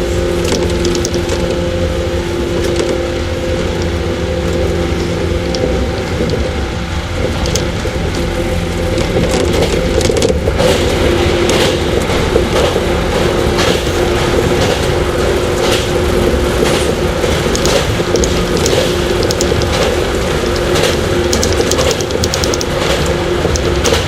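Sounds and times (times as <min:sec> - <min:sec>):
traction motor whine: 0:00.0 - 0:24.0
train low rumble: 0:00.0 - 0:24.0
wheels clicking on track: 0:00.0 - 0:24.0.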